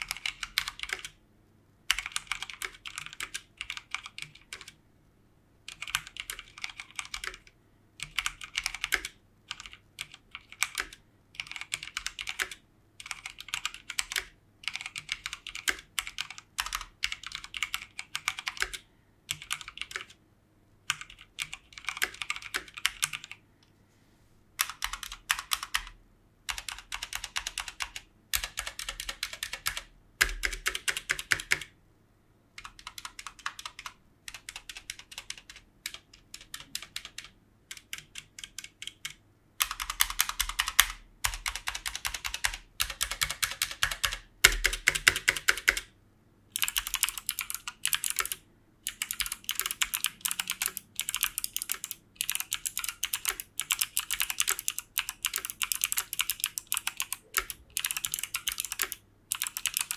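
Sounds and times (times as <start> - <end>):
mechanical keyboard typing: 0.0 - 1.2, 1.9 - 4.8, 5.7 - 20.2, 20.9 - 23.4, 24.6 - 31.8, 32.6 - 45.9, 46.6 - 59.9.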